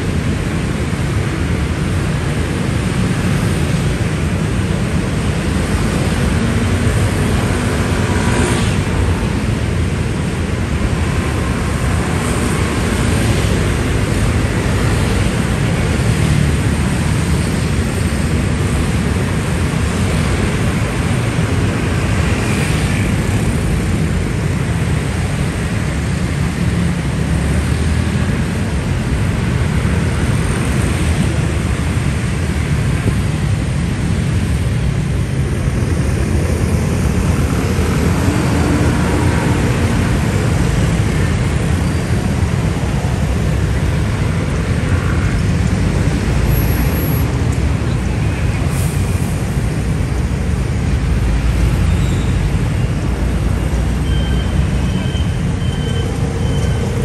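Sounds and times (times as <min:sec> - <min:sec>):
motorcycle traffic rumbling: 0:00.0 - 0:57.0.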